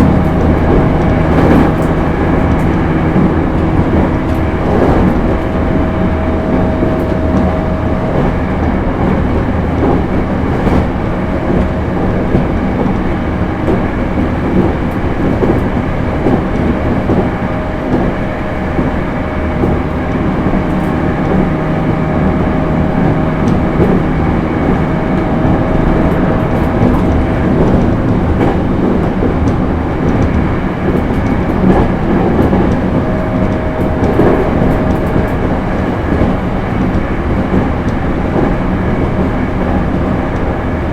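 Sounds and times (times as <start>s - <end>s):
rail joint clicks: 0.0s - 40.9s
train wheels rumbling on rail: 0.0s - 40.9s.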